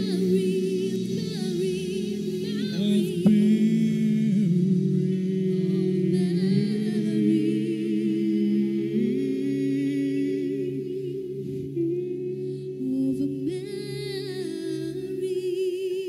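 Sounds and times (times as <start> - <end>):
man and woman singing: 0.0 - 16.0.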